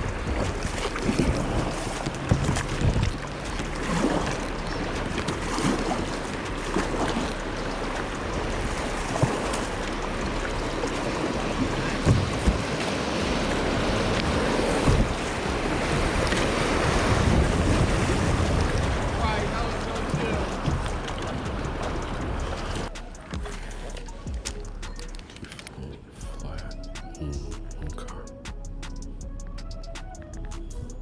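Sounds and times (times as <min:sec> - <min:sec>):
wind on microphone: 0:00.0 - 0:25.6
floodwater rushing over rocks: 0:00.0 - 0:25.8.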